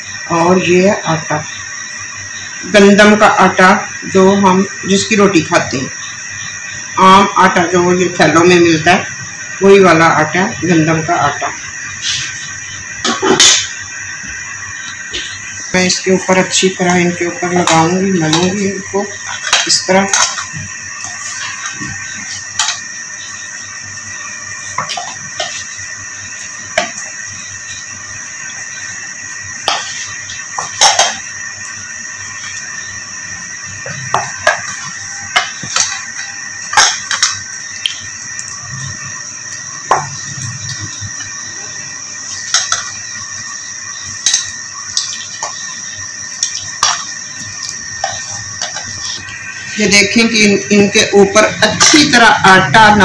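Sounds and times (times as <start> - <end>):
high whine: 0.0 - 53.0
steady hiss: 0.0 - 53.0.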